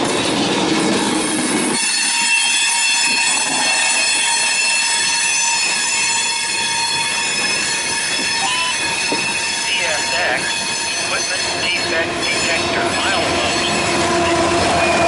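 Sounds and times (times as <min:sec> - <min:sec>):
railroad cars rolling past: 0:00.0 - 0:15.0
wheels squealing on rails: 0:00.0 - 0:15.0.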